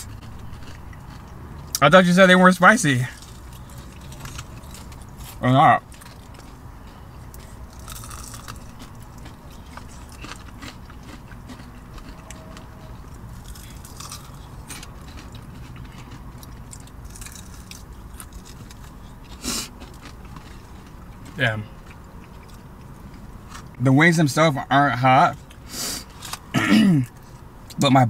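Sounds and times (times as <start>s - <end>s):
crunchy chewing of fried chicken: 0.0s - 23.8s, 25.3s - 27.8s.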